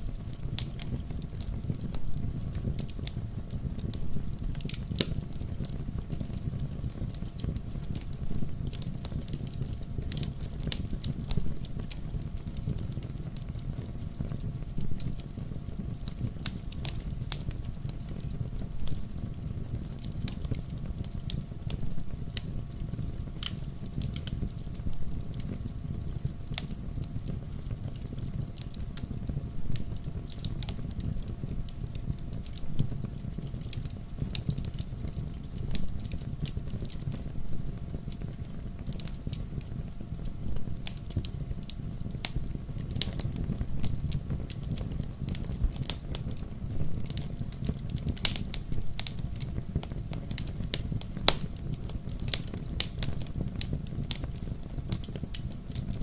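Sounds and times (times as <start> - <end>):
bonfire crackles and pops: 0.0 - 56.0
low rumble of flames: 0.0 - 56.0.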